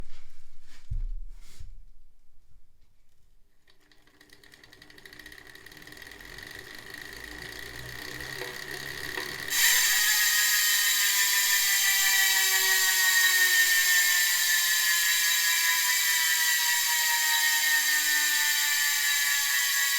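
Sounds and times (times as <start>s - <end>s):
bicycle freehub ratchet buzzing: 3.6s - 19.9s.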